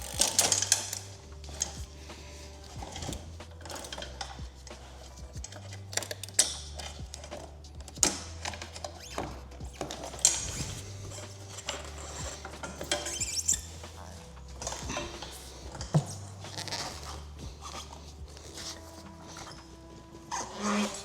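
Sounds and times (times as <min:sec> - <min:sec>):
background music with bass line: 0:00.0 - 0:21.0.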